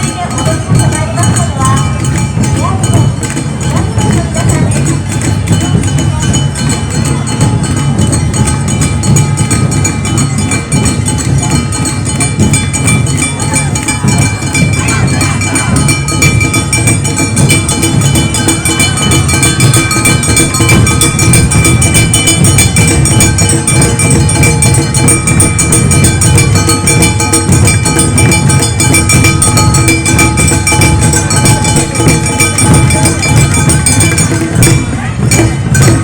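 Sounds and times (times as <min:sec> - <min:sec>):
festival band drums and metal strikes: 0:00.0 - 0:36.0
high held tones: 0:05.0 - 0:36.0.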